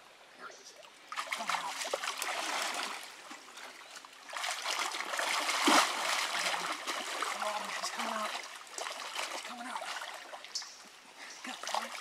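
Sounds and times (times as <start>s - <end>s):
creek water splashing and sloshing: 0.0s - 12.0s.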